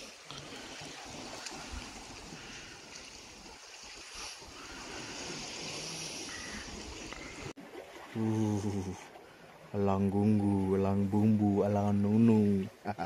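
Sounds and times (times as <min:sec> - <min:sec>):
water along rocky seashore: 0:00.0 - 0:13.0
wind: 0:00.0 - 0:13.0.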